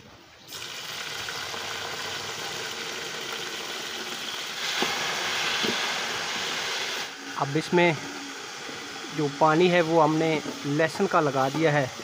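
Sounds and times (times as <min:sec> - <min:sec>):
liquid sizzling and bubbling in pot: 0:00.4 - 0:12.0.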